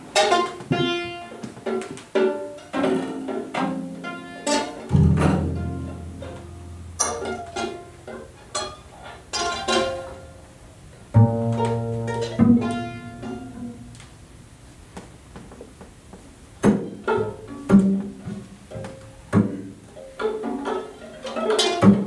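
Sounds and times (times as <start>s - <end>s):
plucked string instruments improvising: 0.0s - 22.0s.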